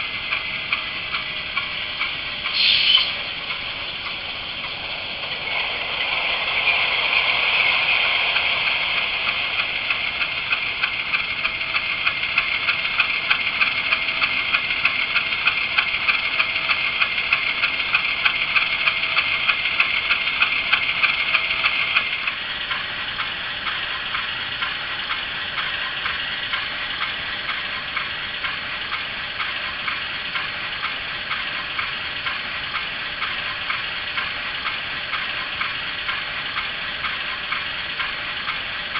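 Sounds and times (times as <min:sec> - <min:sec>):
diesel engine sound through small speaker: 0:00.0 - 0:38.9.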